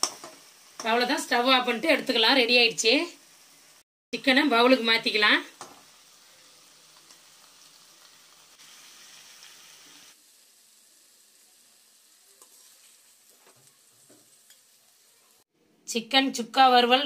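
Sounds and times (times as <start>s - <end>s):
faint sizzling in oil: 0.0s - 15.5s.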